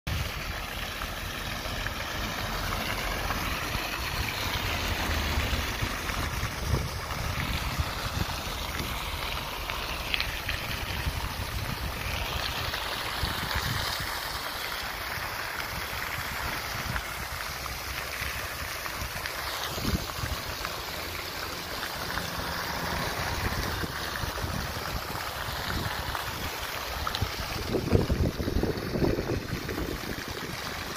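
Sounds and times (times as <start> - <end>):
wind rumbling on microphone: 0.1 - 22.0, 22.6 - 30.9
fountain water splashing: 0.1 - 30.9.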